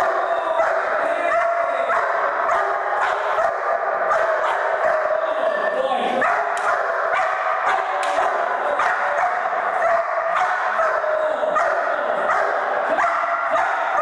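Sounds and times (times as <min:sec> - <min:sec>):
dog barking and yipping: 0:00.0 - 0:05.2, 0:06.2 - 0:14.0.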